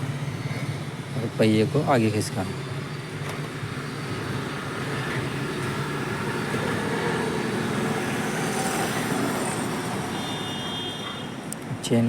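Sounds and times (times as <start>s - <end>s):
vehicle noise: 0.0s - 12.0s.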